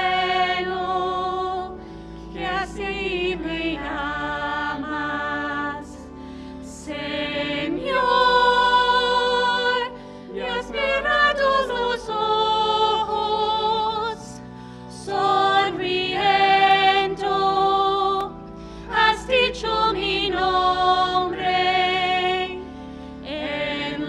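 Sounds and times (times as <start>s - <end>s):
hymn singing: 0.0s - 24.0s
sustained accompaniment: 0.0s - 24.0s.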